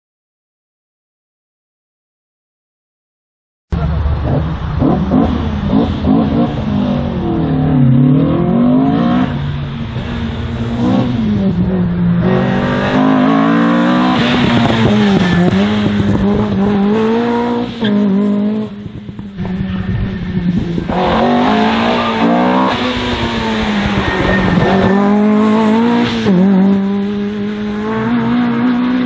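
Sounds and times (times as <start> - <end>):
race car engine revving: 3.7 - 29.0.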